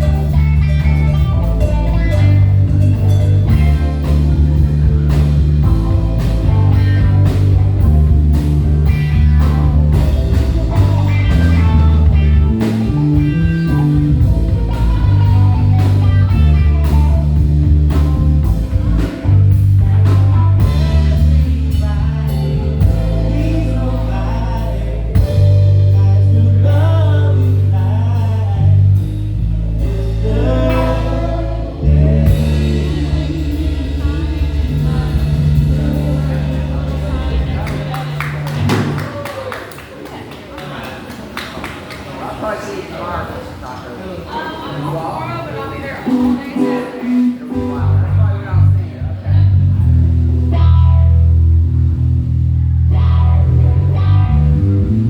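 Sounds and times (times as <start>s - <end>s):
heavy electric bass line: 0.0s - 39.2s, 46.2s - 55.0s
live band playing blues-soul: 0.0s - 40.0s, 45.4s - 55.0s.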